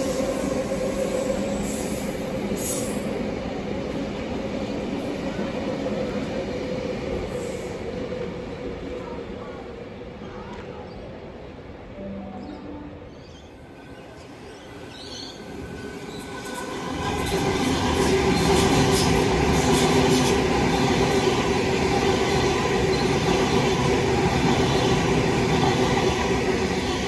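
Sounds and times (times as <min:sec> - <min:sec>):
train wheels rumbling on rail: 0:00.0 - 0:10.8, 0:14.0 - 0:27.0.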